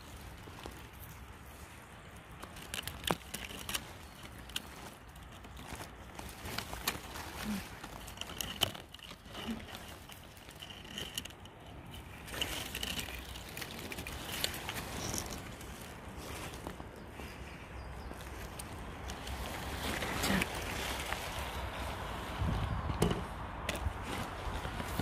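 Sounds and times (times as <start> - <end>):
footsteps in undergrowth: 0.0 - 25.0
twigs and leaves crackling underfoot: 0.0 - 25.0.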